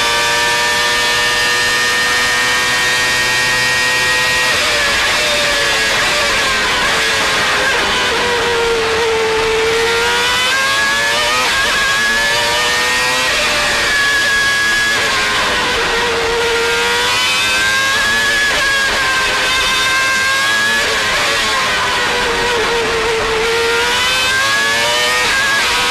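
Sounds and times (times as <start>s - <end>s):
racing car engine revving: 0.0s - 25.9s.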